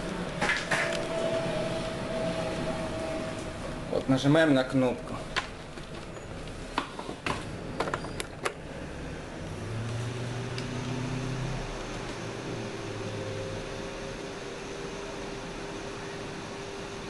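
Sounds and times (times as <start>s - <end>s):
computer fans whirring: 0.0s - 17.0s.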